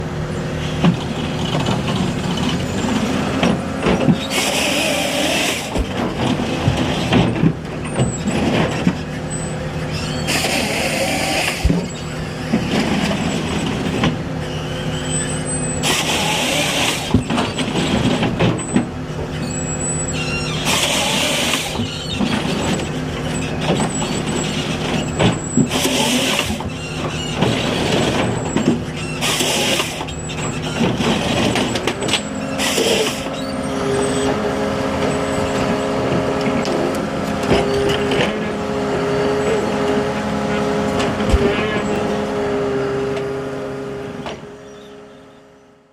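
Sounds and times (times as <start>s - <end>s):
diesel engine and hydraulics: 0.0s - 45.9s
harvester head processing trees: 0.0s - 45.9s.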